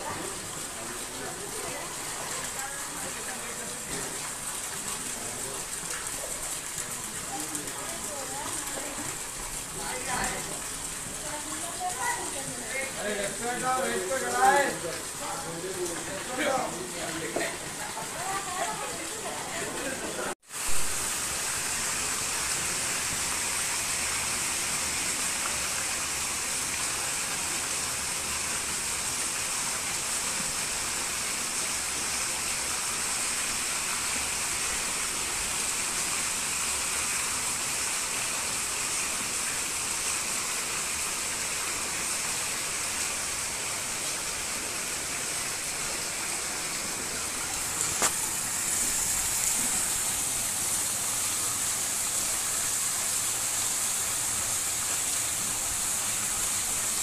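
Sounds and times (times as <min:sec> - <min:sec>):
rain on standing water: 0:00.0 - 0:57.0.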